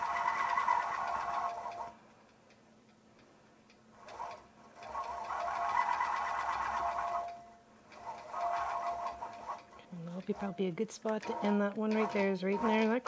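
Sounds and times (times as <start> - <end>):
quilting machine stitching: 0.0 - 2.0, 4.0 - 13.0.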